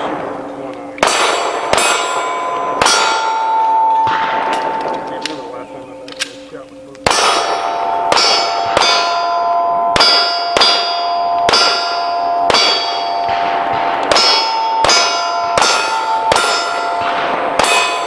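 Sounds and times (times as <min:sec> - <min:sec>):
steel plate clanging: 0:00.0 - 0:06.4, 0:07.1 - 0:18.0
pistol shots: 0:00.0 - 0:18.0.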